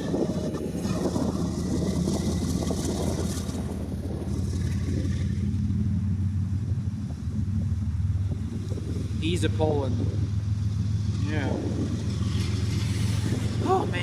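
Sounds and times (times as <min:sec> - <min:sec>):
diesel locomotive engine drone: 0:00.0 - 0:14.0.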